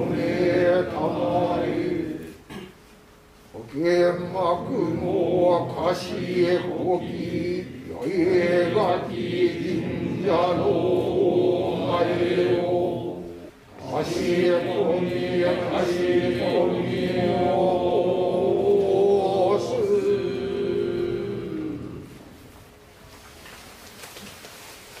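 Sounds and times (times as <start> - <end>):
group chanting in unison: 0.0 - 2.6, 4.1 - 22.3.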